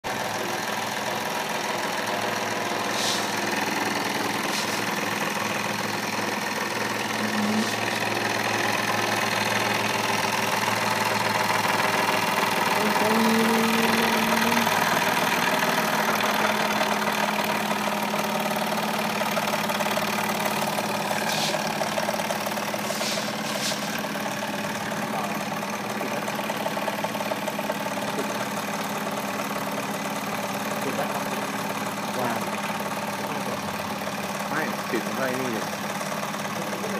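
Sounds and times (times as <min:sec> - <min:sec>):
toy steam engine hissing and rattling: 0:00.1 - 0:36.9.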